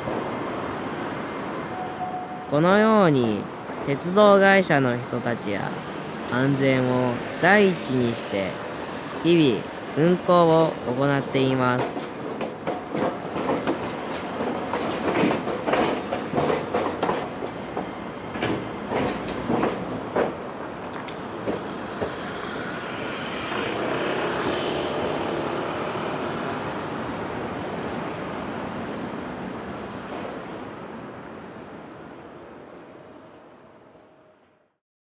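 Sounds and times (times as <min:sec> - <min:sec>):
smooth train running noise: 0:00.0 - 0:34.6
streetcar wheels clacking over rail joints: 0:02.6 - 0:31.3.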